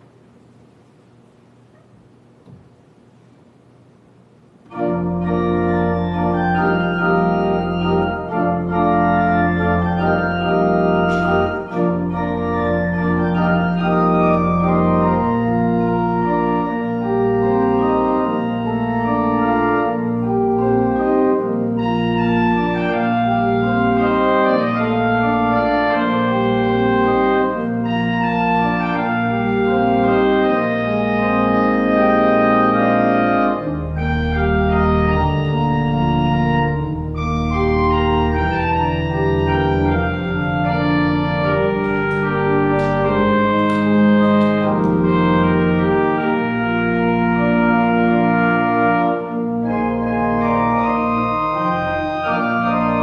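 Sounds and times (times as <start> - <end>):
pipe organ playing chords: 4.6 - 53.0.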